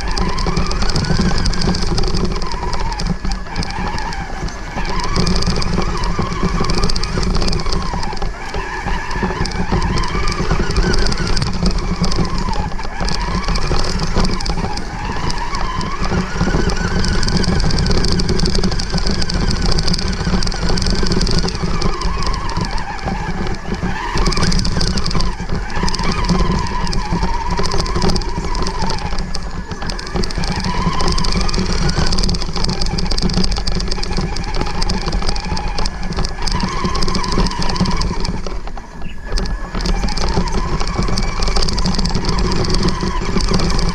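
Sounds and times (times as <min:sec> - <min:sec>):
electric motor whining: 0:00.0 - 0:43.9
truck pushing through grass: 0:00.0 - 0:43.9.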